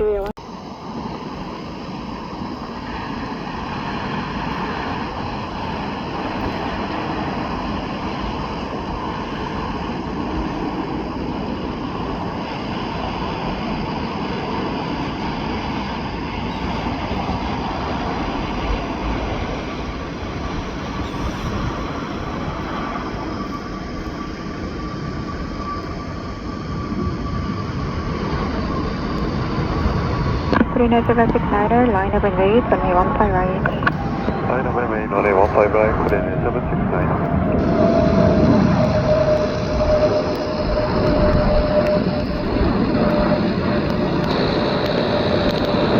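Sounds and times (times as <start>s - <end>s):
jet engine rush: 0.0s - 45.9s
thin steady whine: 0.0s - 45.9s.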